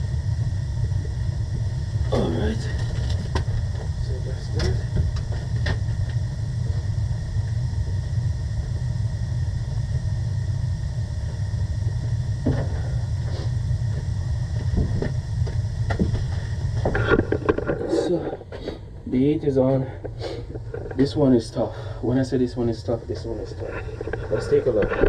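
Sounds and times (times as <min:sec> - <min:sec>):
gas boiler rumbling: 0:00.0 - 0:25.0.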